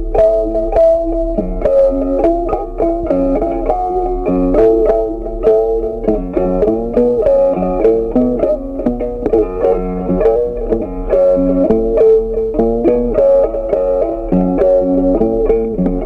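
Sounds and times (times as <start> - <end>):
plucked string melody: 0.0 - 16.0
steady bass line: 0.0 - 16.0.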